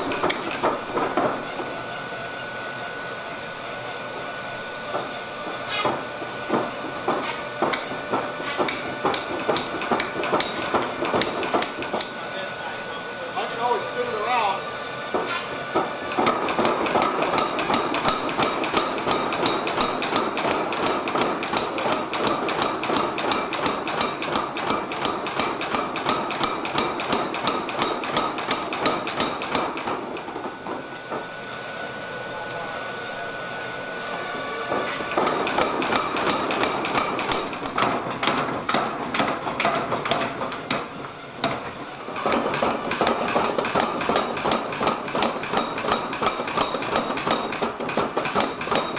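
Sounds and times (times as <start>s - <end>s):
machine running: 0.0s - 48.9s.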